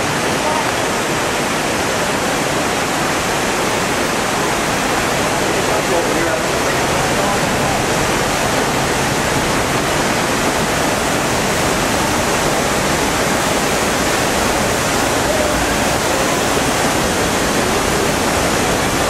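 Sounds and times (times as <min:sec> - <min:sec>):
river water rushing over rapids: 0:00.0 - 0:19.0.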